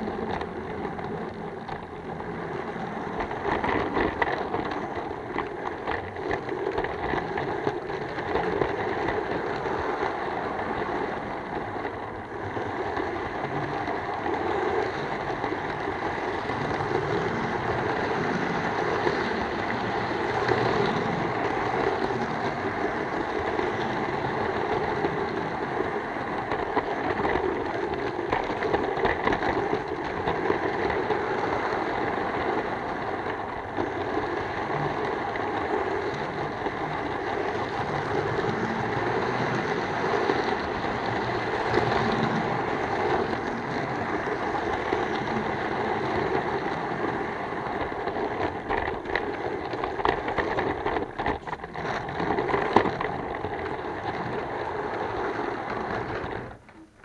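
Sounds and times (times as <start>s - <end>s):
wheels rattling on rails: 0.0s - 57.0s.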